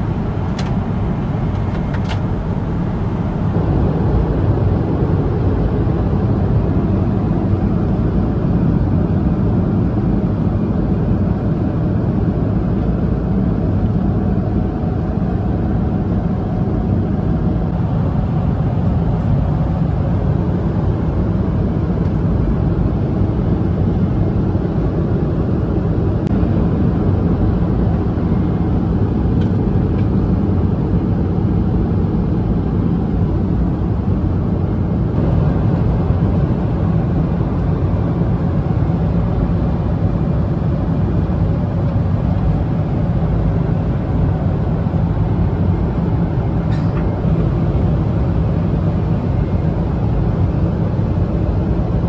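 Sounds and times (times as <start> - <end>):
airplane cabin drone: 0.0 - 52.0.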